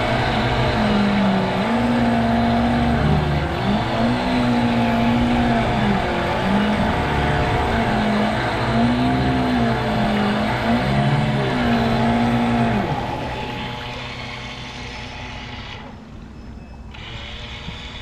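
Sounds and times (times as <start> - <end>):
model boat motor revving: 0.0 - 16.0, 16.9 - 18.0.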